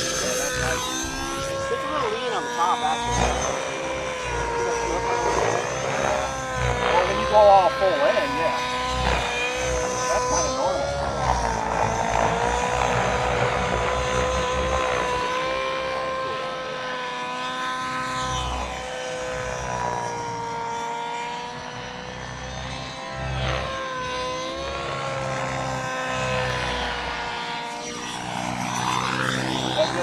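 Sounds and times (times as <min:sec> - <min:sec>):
model aircraft motor drone: 0:00.0 - 0:30.0.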